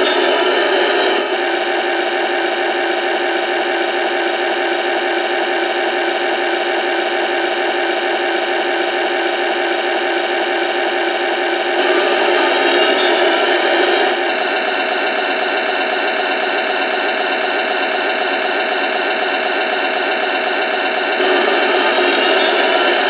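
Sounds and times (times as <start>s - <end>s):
harsh locomotive engine sound from speaker: 0.0s - 23.0s.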